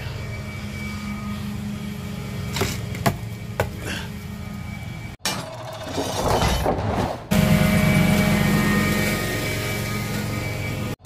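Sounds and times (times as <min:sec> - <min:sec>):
engine running with low drone: 0:00.0 - 0:11.0.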